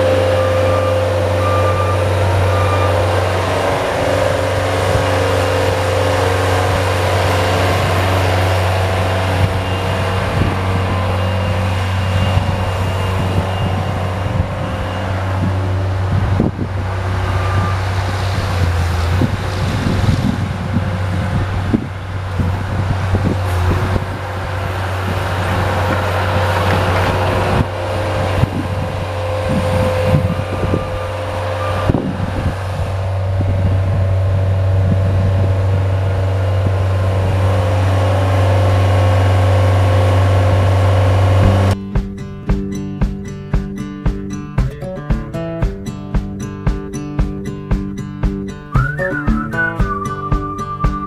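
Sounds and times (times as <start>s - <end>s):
plow knocking and clattering: 0.0s - 34.2s, 34.8s - 51.0s
engine running under load: 0.0s - 51.0s.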